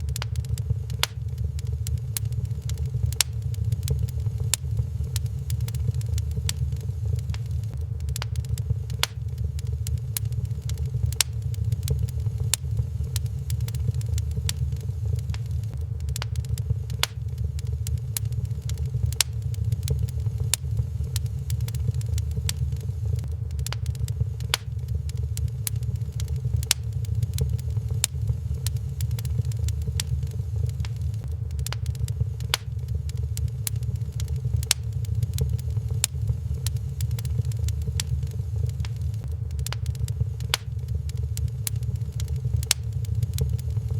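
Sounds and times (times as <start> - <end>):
fire crackling and popping: 0.0 - 43.9
fire low rumble: 0.0 - 43.9.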